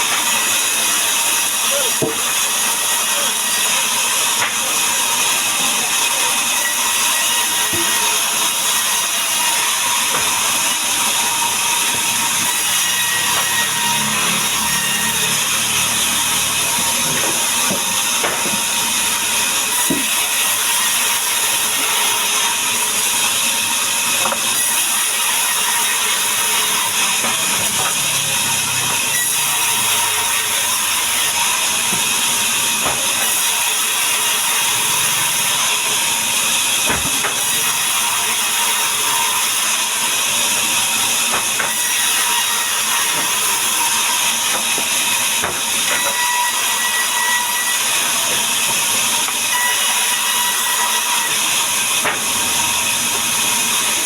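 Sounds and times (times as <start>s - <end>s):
power saw cutting timber: 0.0s - 54.0s.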